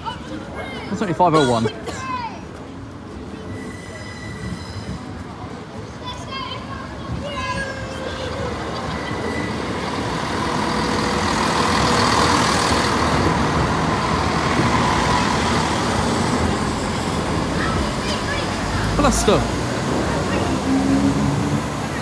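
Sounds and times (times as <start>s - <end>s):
diesel train rumbling past: 2.7s - 22.0s.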